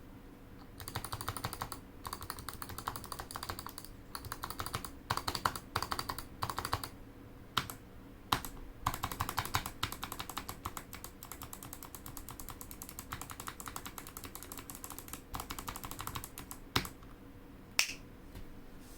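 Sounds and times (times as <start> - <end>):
mechanical keyboard typing: 0.7 - 7.0, 7.6 - 17.1.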